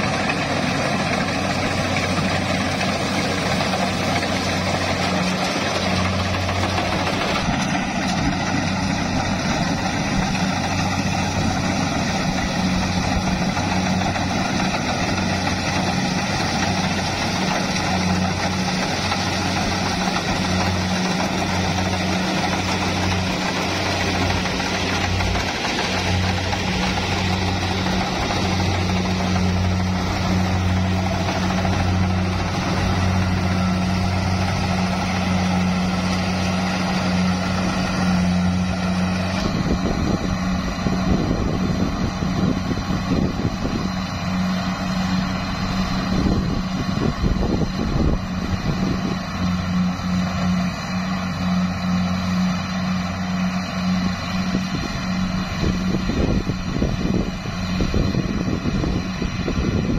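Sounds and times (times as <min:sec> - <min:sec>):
combine harvester engine hum: 0:00.0 - 0:59.9.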